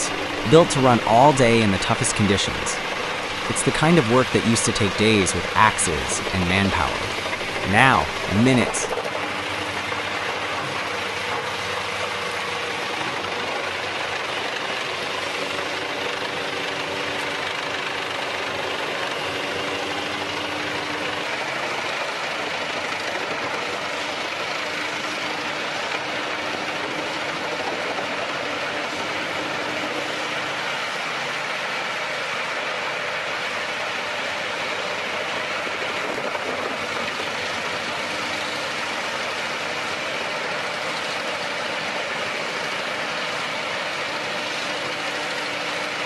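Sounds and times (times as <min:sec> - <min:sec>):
wood chipper running: 0:00.0 - 0:46.0.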